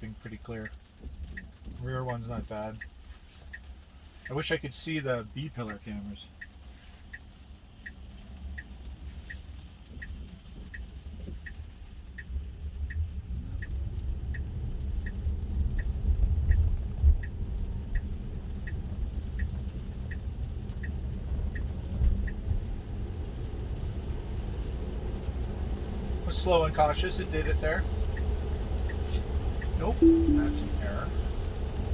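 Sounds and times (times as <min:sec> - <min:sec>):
tyres rumbling on wet road: 0:00.0 - 0:30.0, 0:30.7 - 0:31.9
turn signal ticking: 0:00.1 - 0:04.4, 0:05.6 - 0:26.4, 0:27.8 - 0:31.9.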